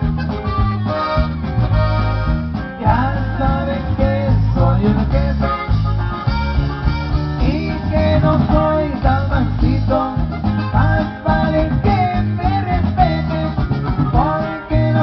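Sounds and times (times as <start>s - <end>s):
bass and drum beat: 0.0s - 15.0s
guitar: 0.0s - 15.0s
live band over sound system: 0.0s - 15.0s.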